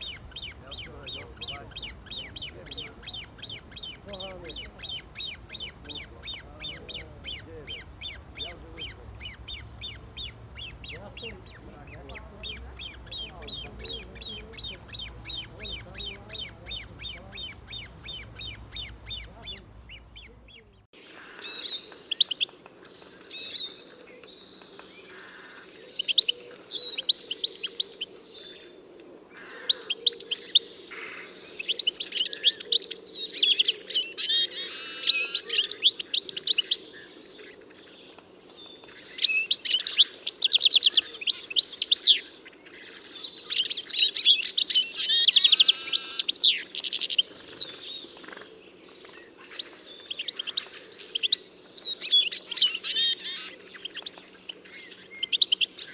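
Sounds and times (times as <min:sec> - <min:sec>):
faint low background noise: 0:00.0 - 0:55.9
songbirds singing: 0:00.0 - 0:55.9.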